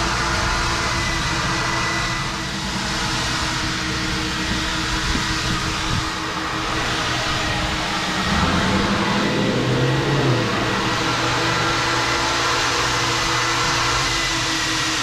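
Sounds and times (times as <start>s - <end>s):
low hum: 0.0s - 14.8s
air dryer blowers rushing: 0.0s - 15.0s.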